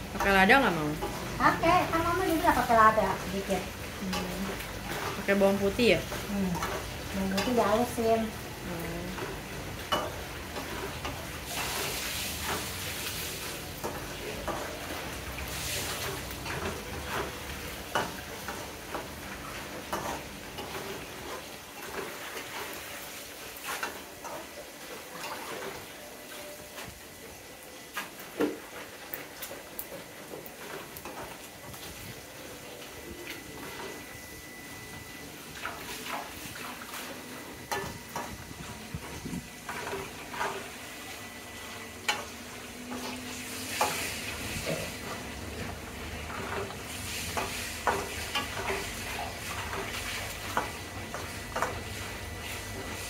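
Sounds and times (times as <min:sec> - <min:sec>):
meat sizzling in a wok: 0:00.0 - 0:53.0.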